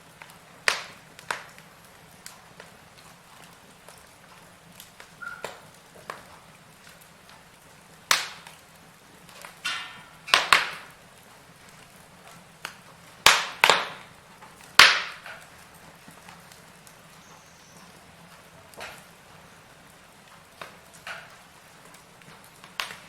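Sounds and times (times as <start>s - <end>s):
faint steady hiss: 0.0s - 23.0s
firewood snapping and popping: 0.0s - 23.0s.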